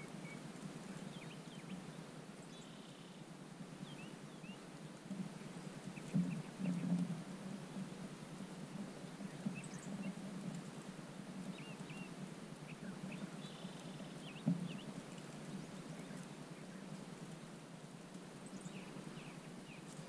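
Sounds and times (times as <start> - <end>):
faint songbird chirps: 0.0 - 3.2, 3.8 - 7.0, 8.8 - 10.8, 11.4 - 17.6, 18.4 - 20.0
low steady hum: 0.0 - 20.0.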